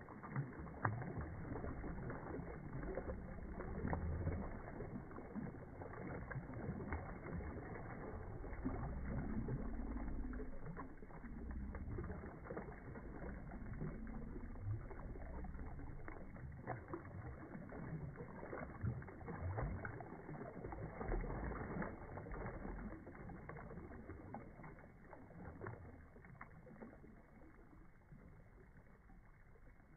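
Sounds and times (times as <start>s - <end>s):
water splashing and sloshing: 0.0s - 29.9s.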